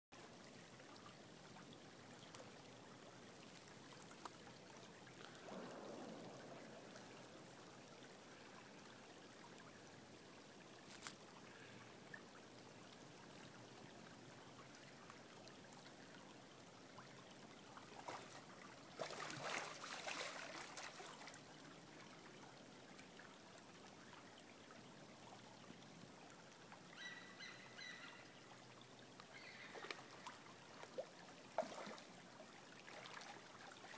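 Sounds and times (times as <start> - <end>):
stream trickling: 0.2 - 33.9.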